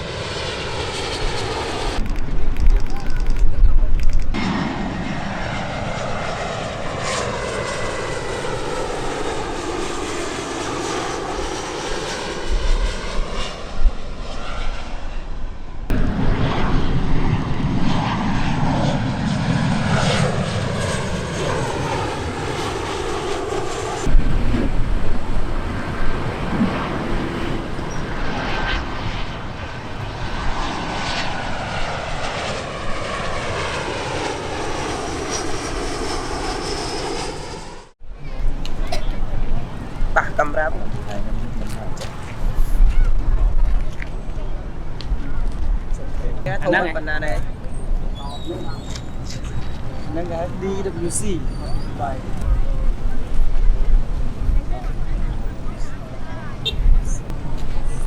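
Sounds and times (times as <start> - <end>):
jet engines roaring overhead: 0.0 - 58.0.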